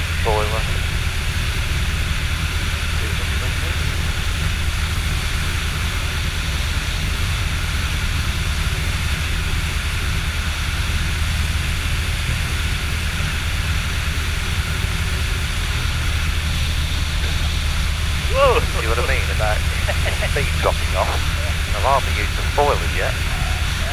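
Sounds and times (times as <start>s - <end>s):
glider engine humming: 0.0s - 23.9s.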